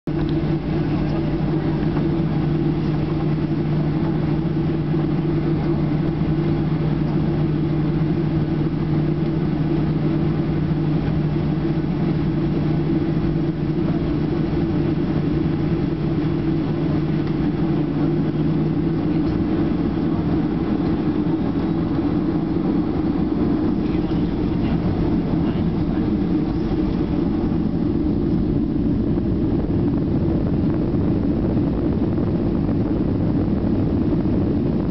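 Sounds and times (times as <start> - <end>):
jet engines humming: 0.1 - 34.9
cabin air rushing: 0.4 - 34.9.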